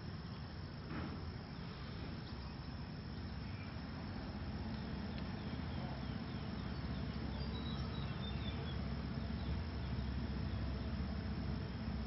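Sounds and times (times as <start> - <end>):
low background rumble: 0.0 - 12.0
birds chirping: 1.4 - 12.0.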